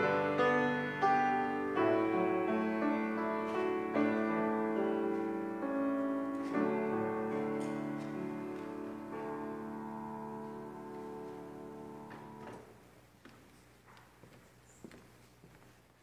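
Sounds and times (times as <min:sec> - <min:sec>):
slow piano chords: 0:00.0 - 0:14.3.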